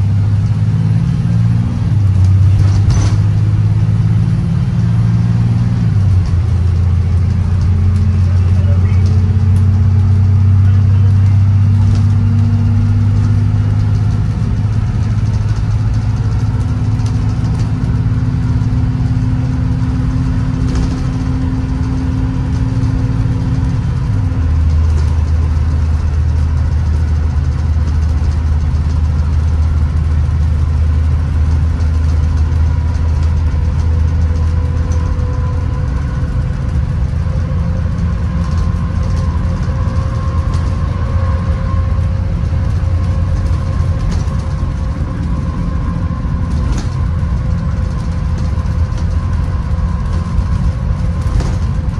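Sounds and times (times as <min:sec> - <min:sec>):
bus engine droning: 0:00.0 - 0:51.9
road noise: 0:00.0 - 0:51.9.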